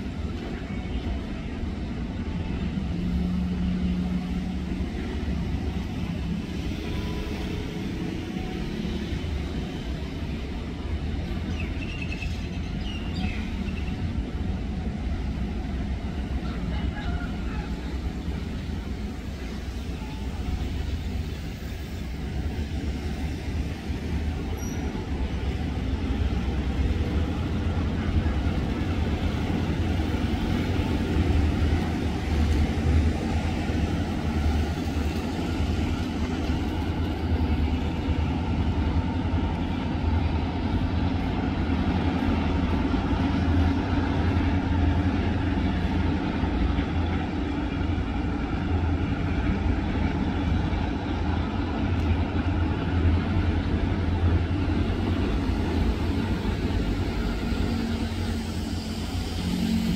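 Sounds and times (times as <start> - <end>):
locomotive engine rumbling: 0.0 - 59.9.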